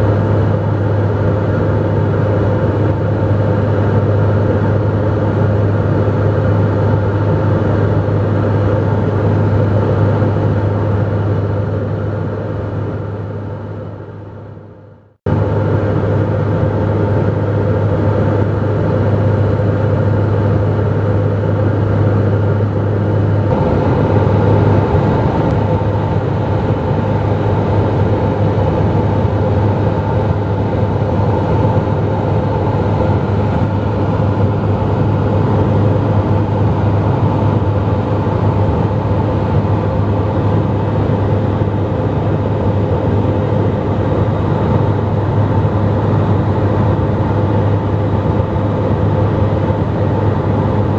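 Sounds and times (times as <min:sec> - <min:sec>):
aircraft engine and propeller drone: 0:00.0 - 0:50.9.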